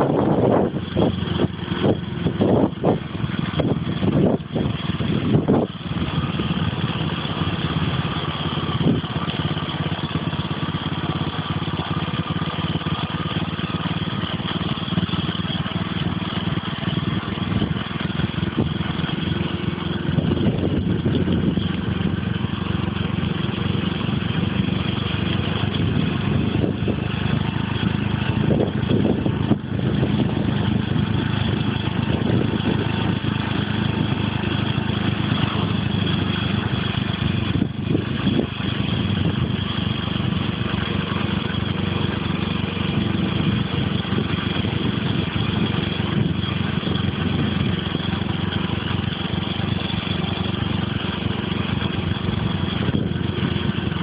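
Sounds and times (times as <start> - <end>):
vehicle engine running: 0.0 - 54.0
wind and road noise: 0.0 - 54.0.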